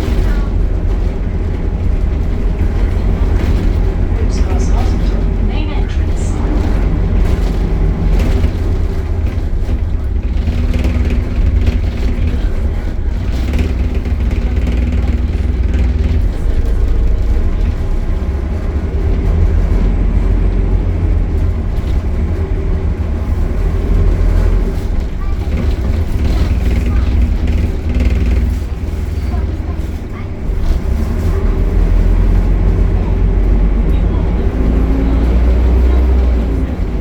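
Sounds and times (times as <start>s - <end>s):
bus engine rumble: 0.0s - 37.0s.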